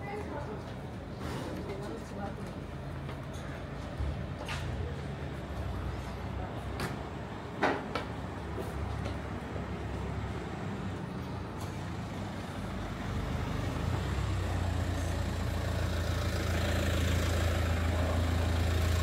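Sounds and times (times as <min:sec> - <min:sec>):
heavy vehicle engine humming: 0:00.1 - 0:19.0.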